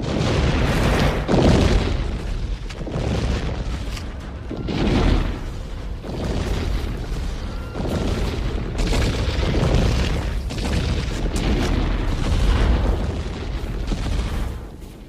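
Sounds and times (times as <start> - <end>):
continuous rumbling: 0.0 - 15.0
explosion booms and crashes: 0.0 - 15.0.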